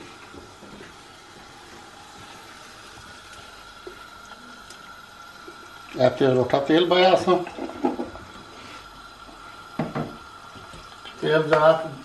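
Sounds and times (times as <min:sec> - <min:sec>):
oil trickling into pot: 0:00.0 - 0:12.0.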